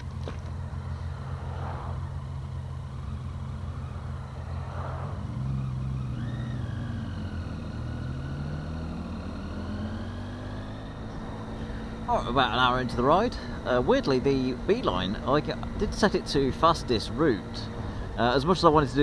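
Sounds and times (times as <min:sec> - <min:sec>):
vehicle engines in traffic: 0:00.0 - 0:19.0.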